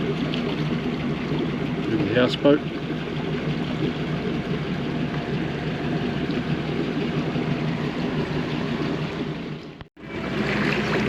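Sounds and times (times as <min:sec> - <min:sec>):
boat engine running: 0:00.0 - 0:11.0
water hum: 0:00.0 - 0:11.0.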